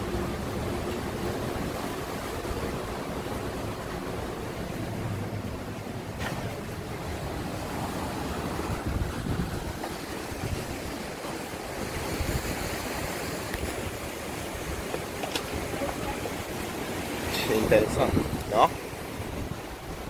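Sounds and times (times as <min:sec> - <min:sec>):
sea surf: 0:00.0 - 0:20.0
wind buffeting microphone: 0:00.0 - 0:20.0.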